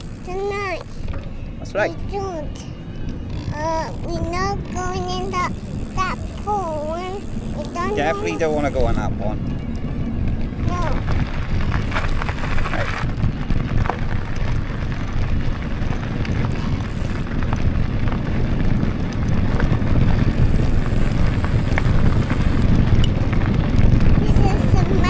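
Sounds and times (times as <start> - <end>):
bike tyre noise on trail: 0.0 - 25.0
wind rumbling on microphone: 0.0 - 25.0
small clicks and rattles: 2.5 - 25.0.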